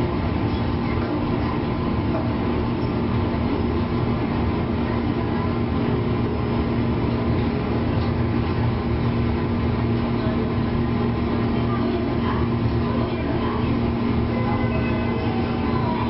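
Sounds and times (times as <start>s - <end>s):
electrical equipment hum: 0.0s - 16.0s
train running rumble: 0.0s - 16.0s.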